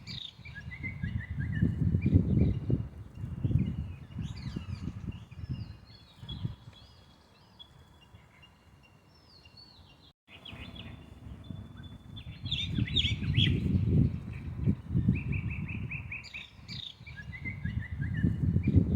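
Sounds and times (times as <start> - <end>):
songbirds chirping: 0.0 - 18.9.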